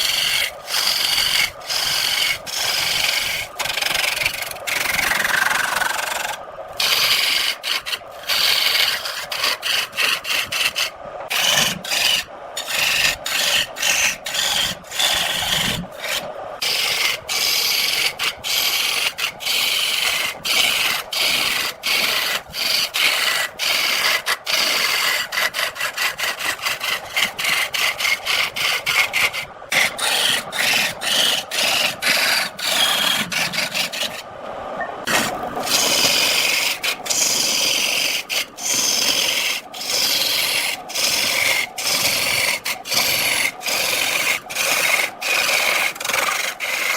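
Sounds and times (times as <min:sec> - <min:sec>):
lathe tool scraping wood: 0:00.0 - 0:34.3, 0:35.0 - 0:46.9.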